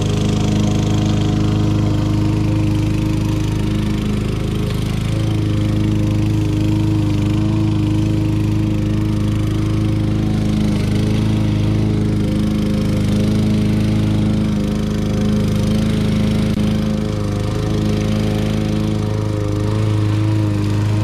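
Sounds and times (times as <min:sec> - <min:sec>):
push mower engine running: 0:00.0 - 0:21.0.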